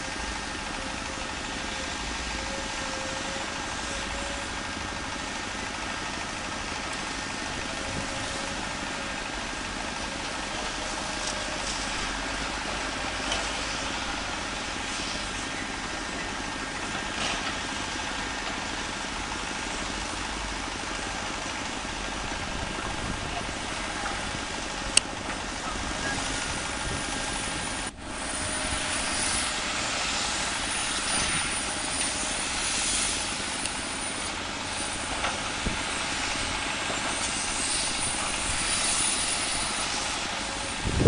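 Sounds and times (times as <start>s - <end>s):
distant diesel engines running: 0.0s - 41.0s.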